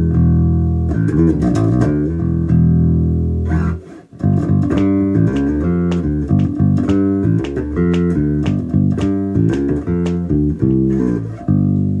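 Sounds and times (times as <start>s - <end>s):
electric bass plucked notes: 0.0s - 12.0s.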